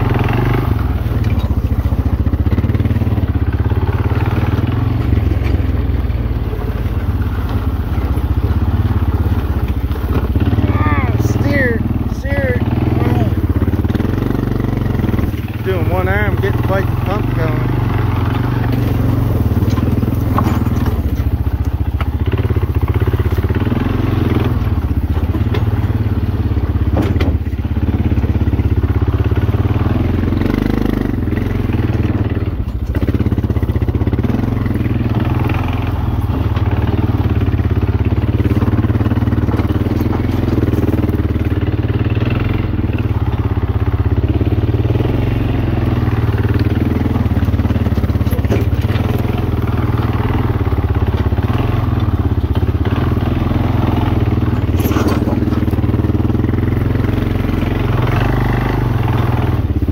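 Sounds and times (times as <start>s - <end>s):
small atv engine running: 0.0s - 59.9s.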